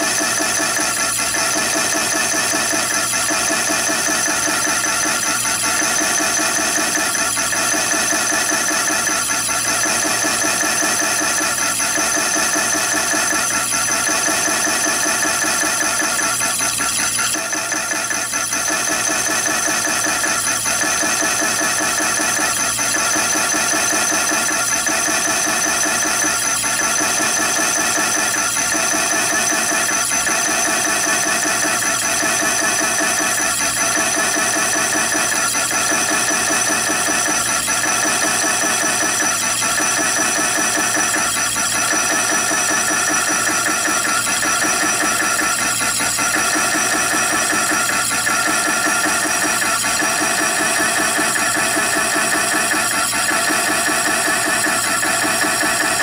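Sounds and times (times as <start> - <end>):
lathe saw cutting metal: 0.0 - 56.0.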